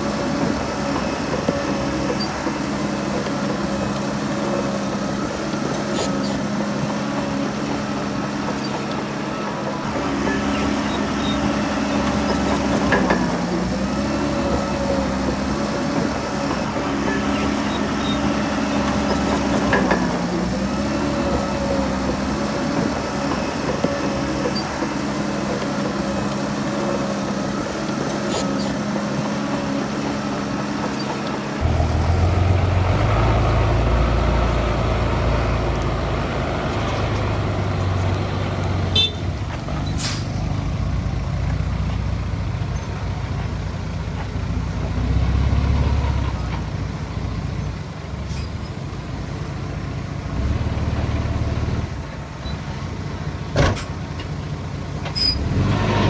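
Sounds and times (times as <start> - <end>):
heavy diesel engines rumbling: 0.0 - 56.0.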